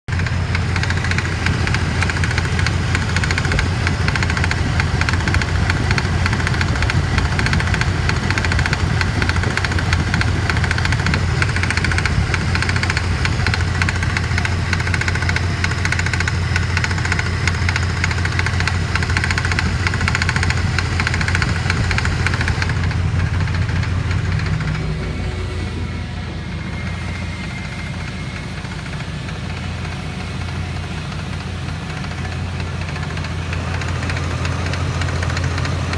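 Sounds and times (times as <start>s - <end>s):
engine idling: 0.0s - 35.9s
fast steady knocking: 0.1s - 25.2s, 28.0s - 35.9s.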